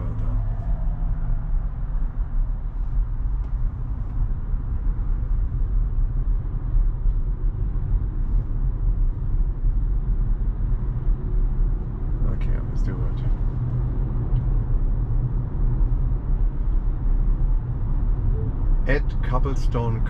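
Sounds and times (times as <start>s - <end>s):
road and tyre rumble in car: 0.0s - 20.0s.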